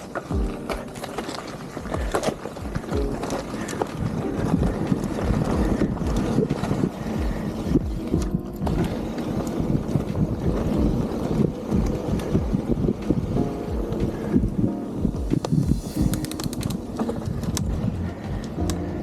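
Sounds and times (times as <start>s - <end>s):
bike knocks and rattles: 0.0s - 16.4s
wind buffeting microphone: 0.0s - 19.0s
steady low rumble: 1.8s - 19.0s.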